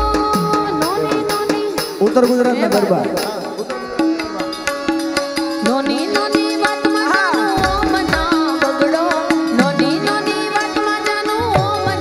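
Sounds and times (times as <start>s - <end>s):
hand drum beat: 0.0s - 5.0s, 5.6s - 12.0s.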